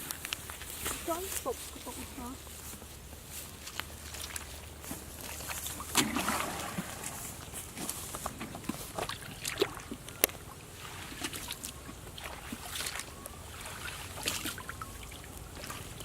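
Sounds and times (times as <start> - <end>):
shallow water splashing: 0.0 - 16.0.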